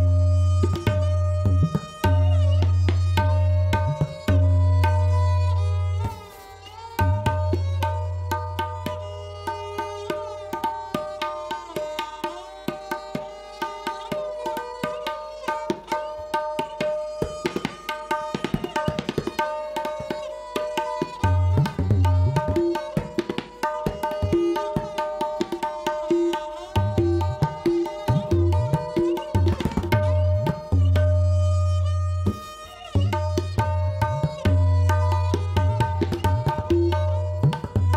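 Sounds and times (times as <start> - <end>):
tabla right-hand drum strokes: 0.0 - 37.9.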